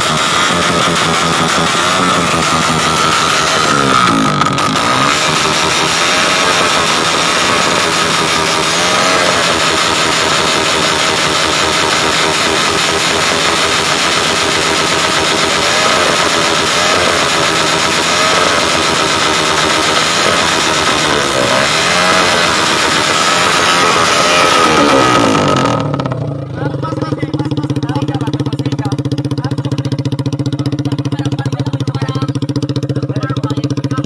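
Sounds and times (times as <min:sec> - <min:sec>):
exhaust afterfire: 0:00.0 - 0:34.0
motorcycle engine revving: 0:00.0 - 0:34.0.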